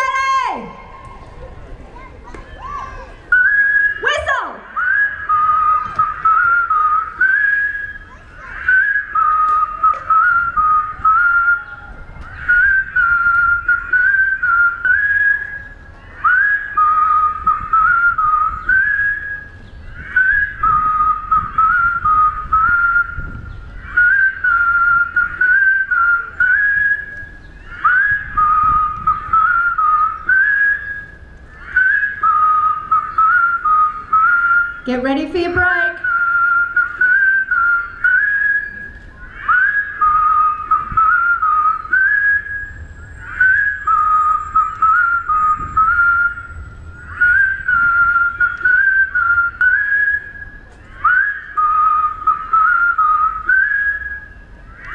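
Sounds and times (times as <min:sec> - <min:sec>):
crowd whistling a tune: 0:02.5 - 0:54.9.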